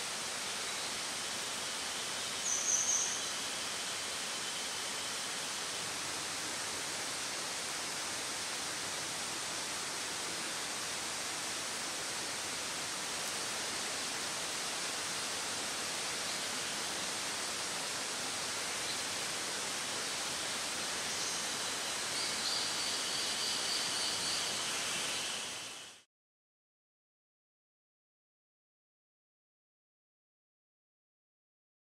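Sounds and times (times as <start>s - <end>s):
rushing forest ambience: 0.0s - 26.1s.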